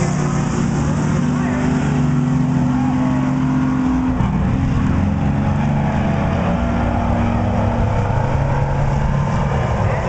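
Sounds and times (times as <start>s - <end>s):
race truck engines droning: 0.0s - 10.0s.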